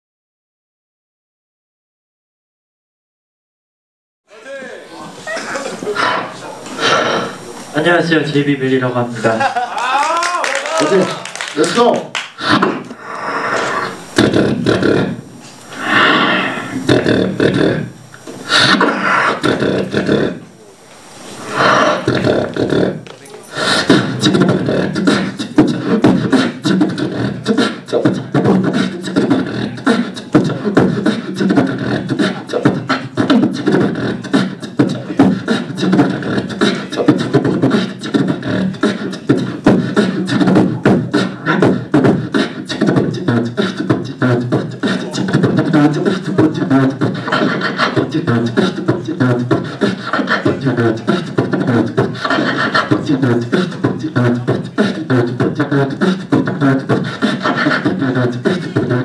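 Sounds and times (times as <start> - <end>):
person beatboxing: 5.4 - 7.8, 10.0 - 20.7, 21.4 - 59.0.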